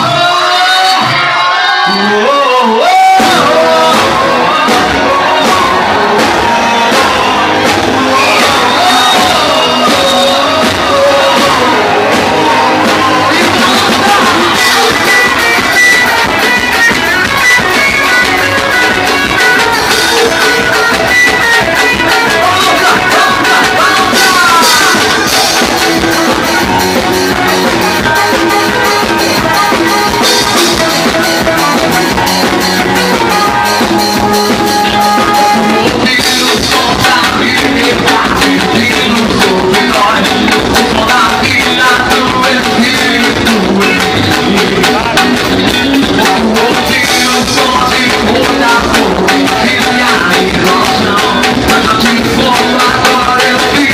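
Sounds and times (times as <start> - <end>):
live band playing: 0.0 - 53.9.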